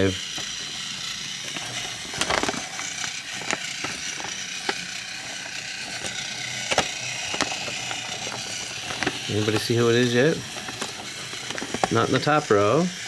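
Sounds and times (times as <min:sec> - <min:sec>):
toy train motor whirring: 0:00.0 - 0:13.0
toy train wheels clacking on track: 0:00.0 - 0:13.0.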